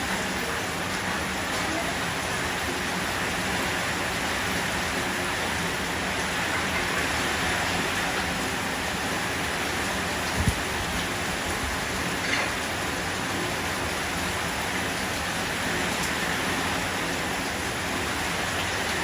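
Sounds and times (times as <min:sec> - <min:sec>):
rushing stream: 0:00.0 - 0:19.0
steady rain: 0:00.0 - 0:19.0.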